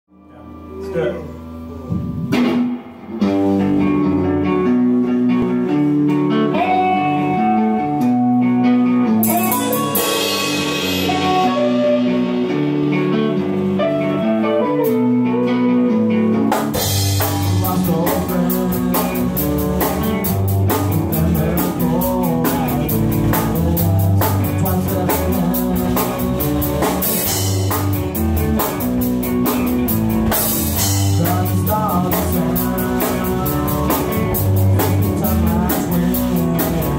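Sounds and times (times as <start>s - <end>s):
bass guitar: 0.1s - 36.9s
electric guitars: 0.1s - 36.9s
drum kit: 0.9s - 36.9s.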